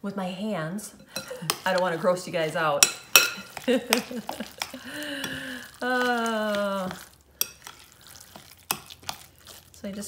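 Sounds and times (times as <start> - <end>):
utensil stirring in glass bowl: 1.2 - 2.2, 2.8 - 10.0.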